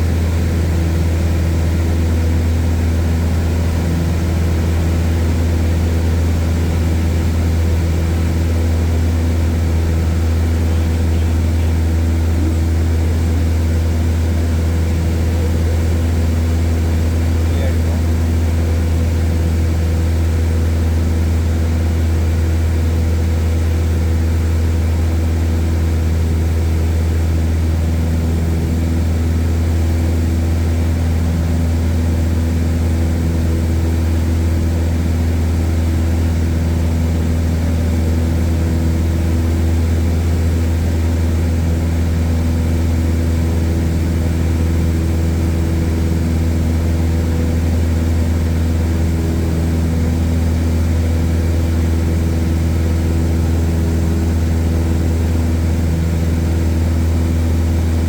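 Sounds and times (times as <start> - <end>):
airplane engine drone: 0.0 - 58.0.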